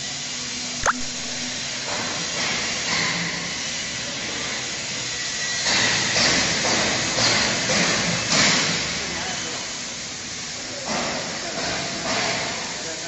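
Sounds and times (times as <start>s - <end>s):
factory hall hiss: 1.5s - 13.0s.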